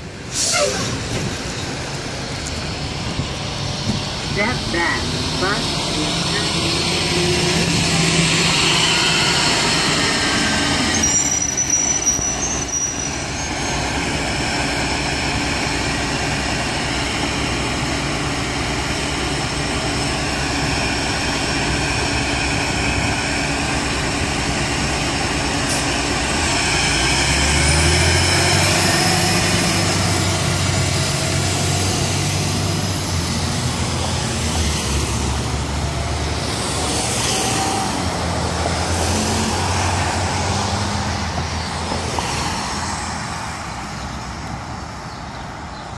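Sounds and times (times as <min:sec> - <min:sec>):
bus engine pulling away: 0:00.0 - 0:45.9
cars passing: 0:00.0 - 0:45.9.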